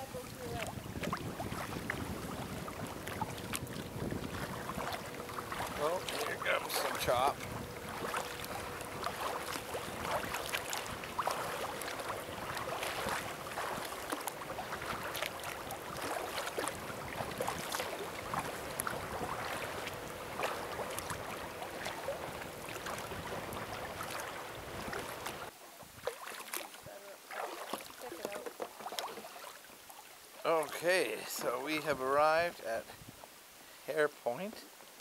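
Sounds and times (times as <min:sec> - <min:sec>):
water splashing against kayak hull: 0:00.0 - 0:32.0.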